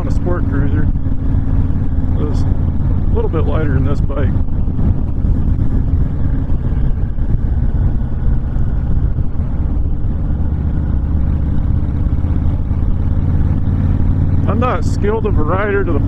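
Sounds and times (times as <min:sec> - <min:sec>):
motorcycle engine drone: 0:00.0 - 0:16.0
wind rushing over microphone: 0:00.0 - 0:16.0.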